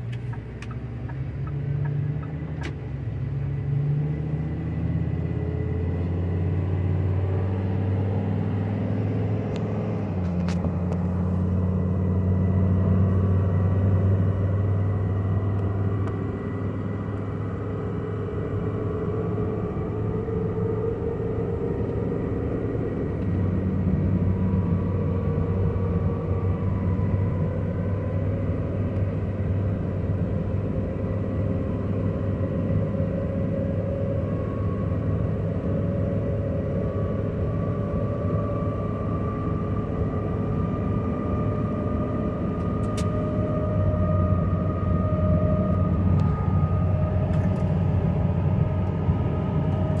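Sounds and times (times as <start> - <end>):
road noise: 0.0 - 50.0
truck engine droning: 0.0 - 50.0
steady high whine: 5.3 - 50.0.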